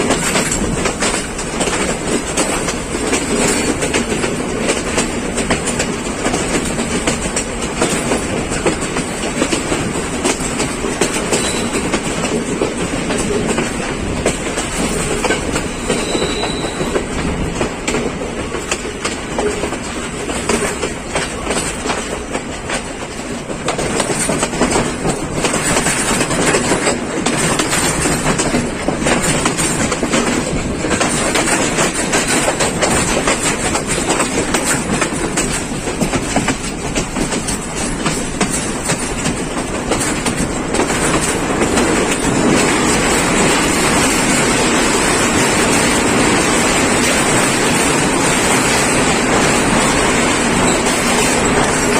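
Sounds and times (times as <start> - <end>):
train rushing noise: 0.0 - 51.9
train wheels clattering on rails: 0.0 - 51.9.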